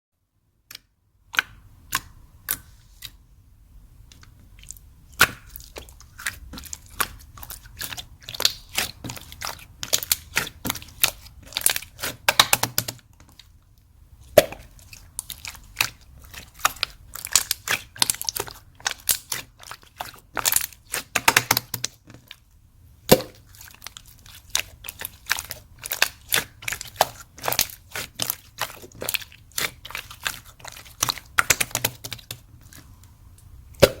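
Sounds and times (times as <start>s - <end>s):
slime clicking and popping: 0.7s - 2.7s, 4.1s - 13.1s, 14.3s - 22.0s, 23.1s - 32.4s, 33.8s - 34.0s.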